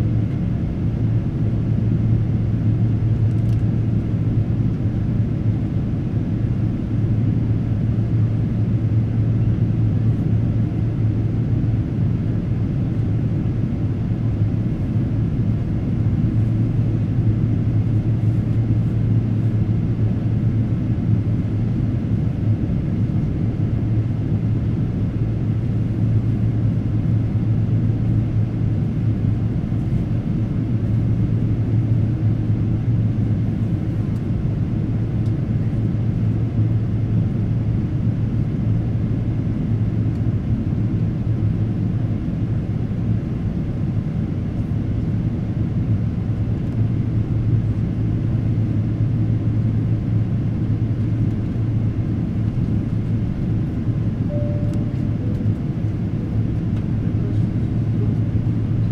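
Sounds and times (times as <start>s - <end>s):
airliner cabin drone: 0.0s - 58.9s.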